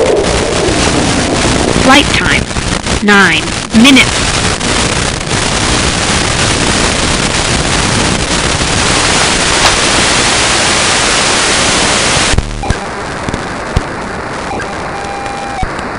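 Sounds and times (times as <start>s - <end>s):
radio static hiss: 0.0s - 15.9s.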